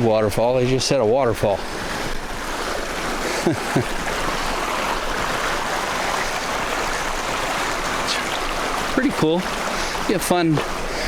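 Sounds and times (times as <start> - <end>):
waterfall rushing over rocks: 1.6 - 11.0.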